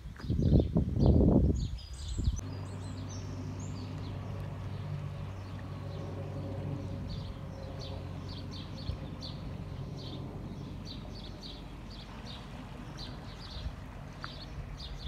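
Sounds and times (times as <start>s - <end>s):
small birds chirping: 0.1s - 15.0s
boat engine humming: 2.4s - 15.0s.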